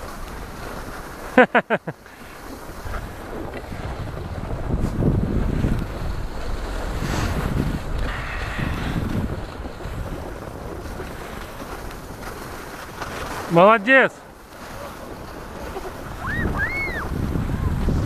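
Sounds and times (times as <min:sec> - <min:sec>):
skis hissing on snow: 0:00.0 - 0:18.0
wind buffeting microphone: 0:02.2 - 0:13.6, 0:14.2 - 0:18.0.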